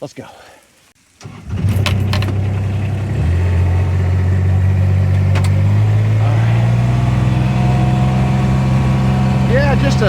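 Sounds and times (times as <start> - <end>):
vehicle engine running: 1.4 - 10.0.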